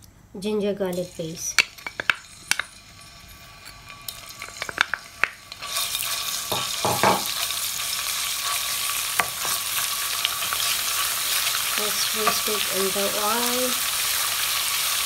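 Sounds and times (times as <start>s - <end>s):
paste sizzling in hot oil: 0.9s - 15.0s.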